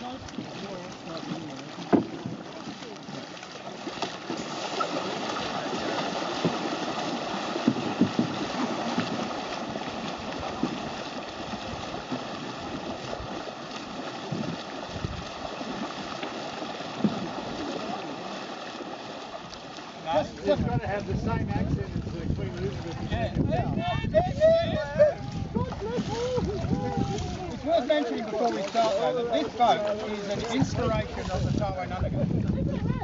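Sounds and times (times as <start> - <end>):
water splashing around boat: 0.0 - 33.0.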